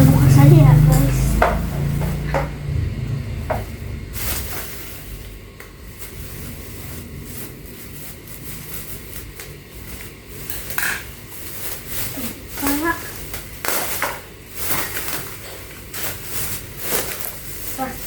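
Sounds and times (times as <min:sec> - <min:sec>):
plastic wrapping rustling: 0:00.0 - 0:18.0.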